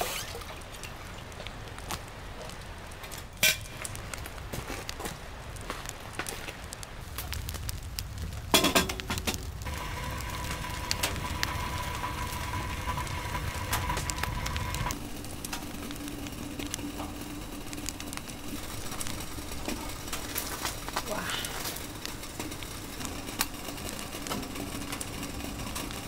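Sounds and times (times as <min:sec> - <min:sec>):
steady sizzling: 0:00.0 - 0:26.0
wood fire crackling: 0:00.0 - 0:26.0.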